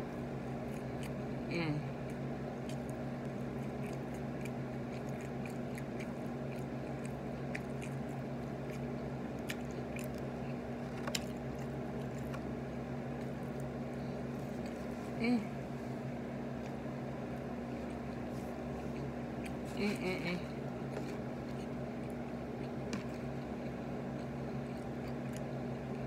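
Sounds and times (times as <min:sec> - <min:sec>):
person chewing: 0:00.4 - 0:15.2, 0:16.5 - 0:19.8, 0:20.7 - 0:26.0.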